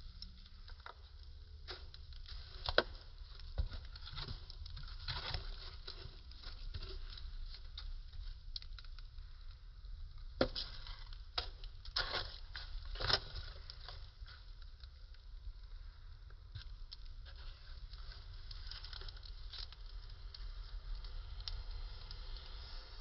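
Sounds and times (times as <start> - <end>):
fire crackling and popping: 0.0 - 23.0
low steady rumble: 0.0 - 23.0.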